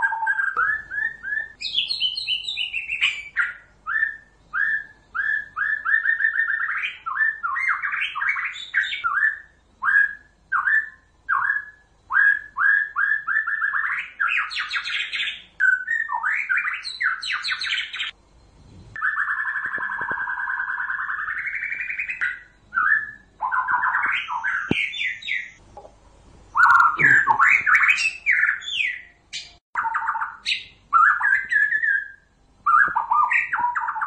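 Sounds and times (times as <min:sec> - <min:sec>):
bird singing whistled notes: 0:00.0 - 0:25.6, 0:26.6 - 0:34.0.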